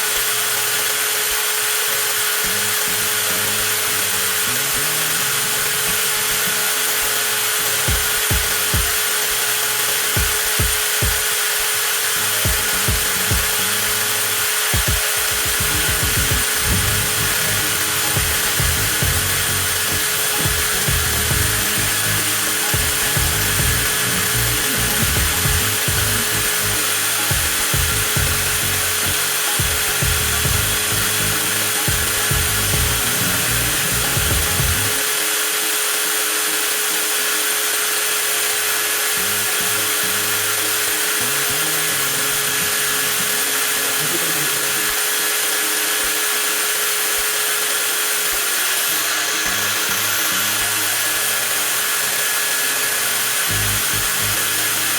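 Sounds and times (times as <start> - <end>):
angle grinder motor whining: 0.0 - 54.9.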